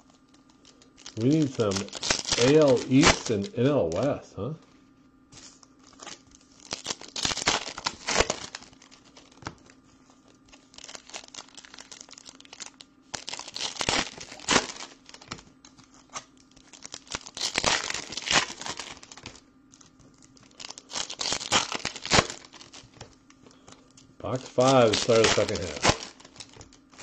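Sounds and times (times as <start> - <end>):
wrappers crinkling and tearing: 0.0 - 4.1, 5.3 - 27.0.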